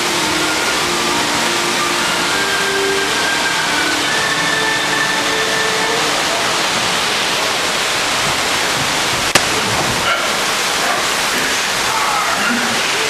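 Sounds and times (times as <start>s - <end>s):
cascading water rushing: 0.0s - 13.0s.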